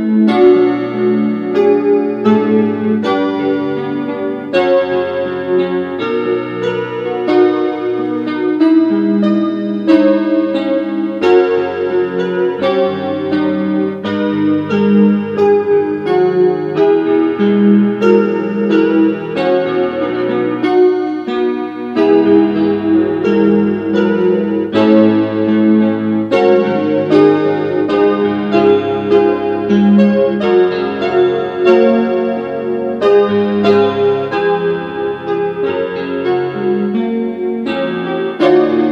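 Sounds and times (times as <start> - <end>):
solo piano music: 0.0 - 38.9.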